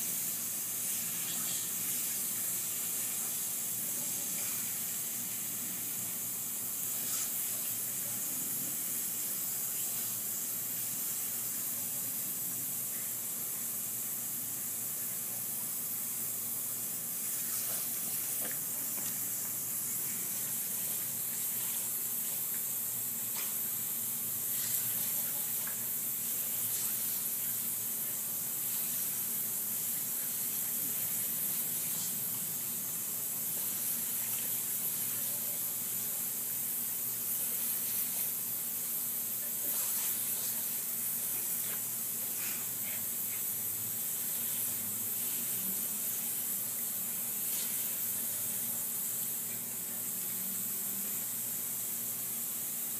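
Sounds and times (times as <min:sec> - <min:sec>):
sprinkler spraying with hiss: 0:00.0 - 0:52.9.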